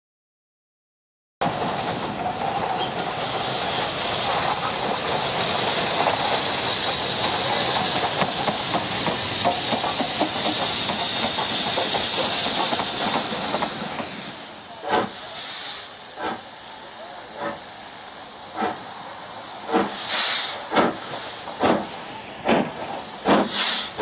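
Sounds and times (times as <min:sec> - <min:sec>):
steam locomotive hissing: 0:01.4 - 0:24.0.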